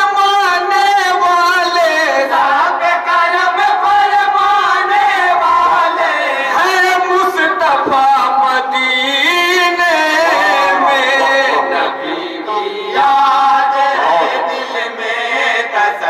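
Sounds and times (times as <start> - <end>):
men singing into a microphone: 0.0 - 16.0.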